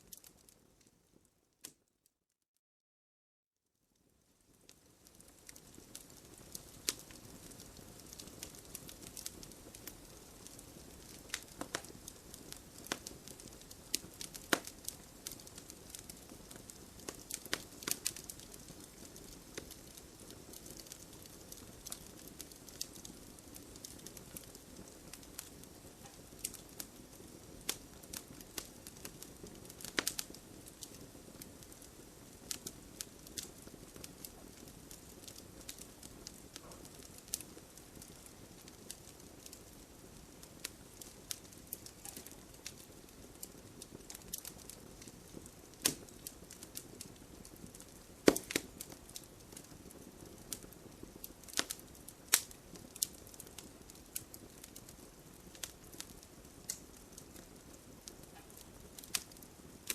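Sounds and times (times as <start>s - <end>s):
burning wood crackling and popping: 0.0s - 1.0s, 4.0s - 59.9s.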